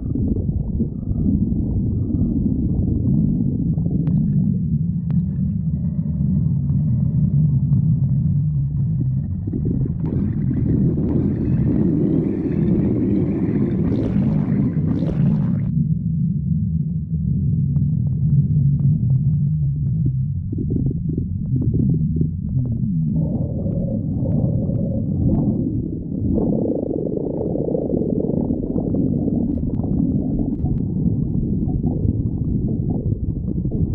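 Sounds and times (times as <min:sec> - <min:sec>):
stomach growling: 0:00.0 - 0:15.8, 0:17.7 - 0:33.9.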